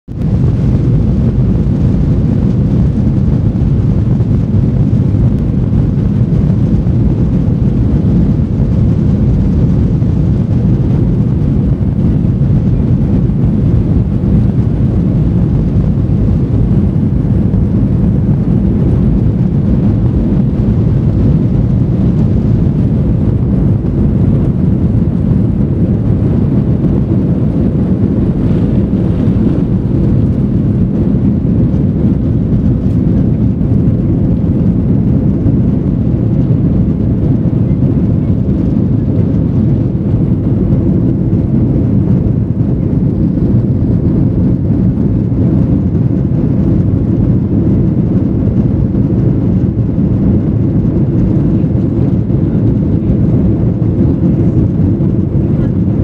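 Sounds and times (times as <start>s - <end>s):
jet engines deep rumble in cabin: 0.0s - 56.0s.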